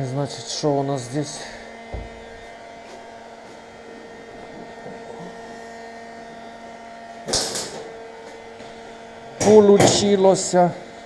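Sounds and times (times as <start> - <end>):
heat gun humming: 0.3 - 11.0.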